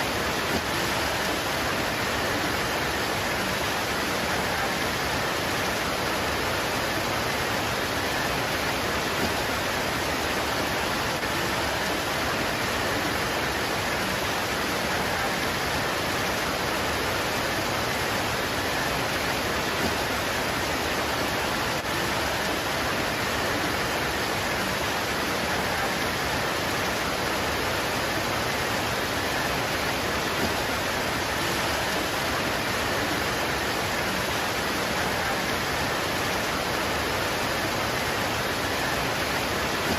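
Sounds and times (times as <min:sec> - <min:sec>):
rain pouring on leaves: 0:00.0 - 0:39.9.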